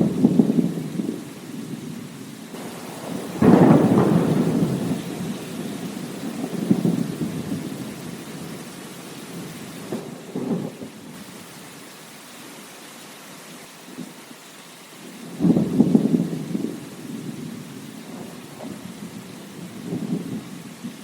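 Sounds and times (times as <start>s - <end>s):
thunder rumbling: 0.0s - 11.4s, 15.1s - 21.0s
steady rain: 0.0s - 21.0s.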